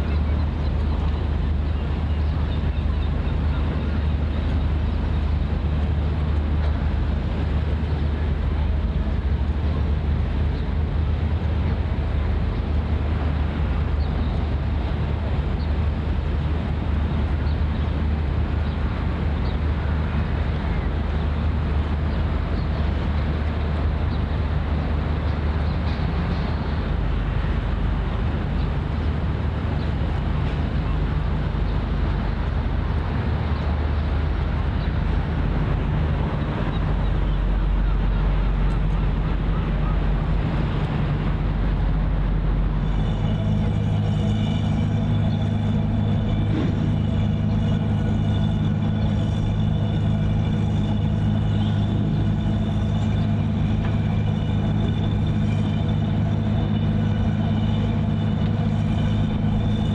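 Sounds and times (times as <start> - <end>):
background noise wash: 0.0 - 59.9
ship engine drone: 0.0 - 59.9.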